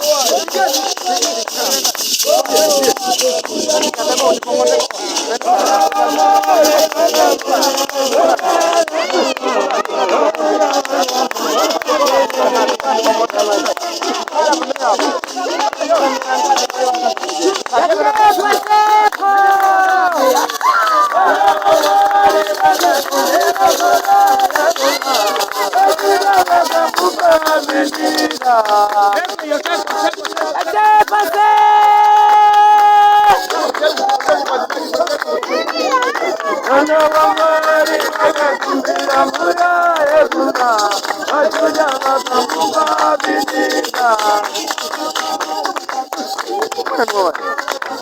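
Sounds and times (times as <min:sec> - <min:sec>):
group singing in harmony: 0:00.0 - 0:48.0
hand rattles shaking: 0:00.0 - 0:48.0.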